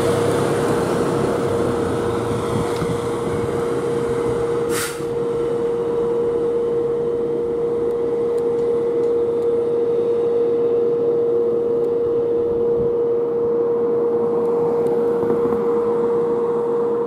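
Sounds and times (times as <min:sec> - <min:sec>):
fire truck siren steady tone: 0:00.0 - 0:17.0
truck engine and road noise: 0:00.0 - 0:17.0.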